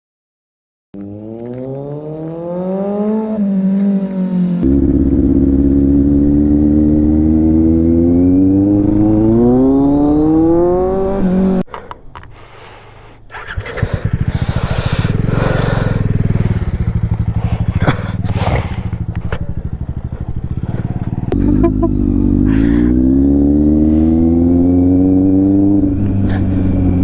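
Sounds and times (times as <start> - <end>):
motorcycle engine accelerating: 1.0 - 11.7, 13.3 - 27.0.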